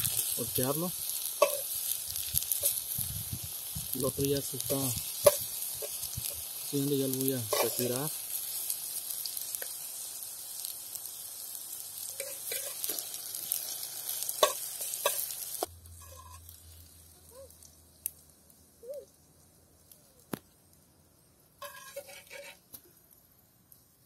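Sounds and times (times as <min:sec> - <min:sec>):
food sizzling in hot oil: 0:00.0 - 0:20.5, 0:21.4 - 0:24.0.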